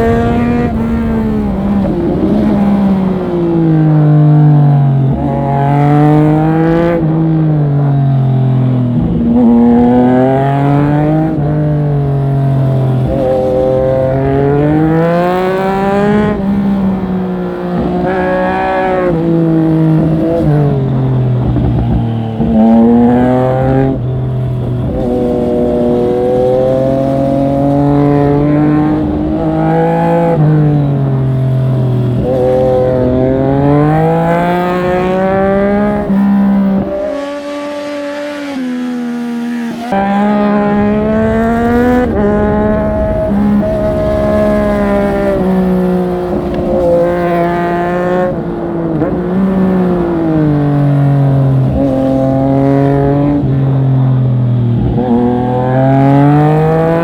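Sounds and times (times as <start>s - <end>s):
motorcycle engine revving under hard riding: 0.0s - 57.0s.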